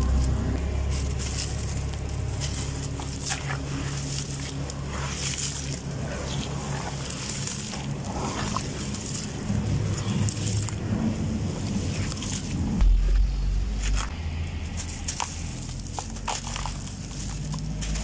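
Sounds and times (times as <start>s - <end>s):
gritty crunches: 0.0s - 18.0s
muddy water splashing and sloshing: 0.0s - 18.0s
steady low hum: 0.0s - 18.0s.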